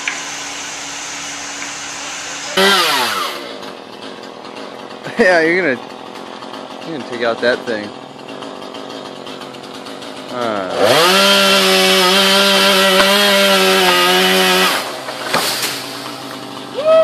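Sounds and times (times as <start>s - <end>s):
chainsaw revving: 0.0s - 16.8s.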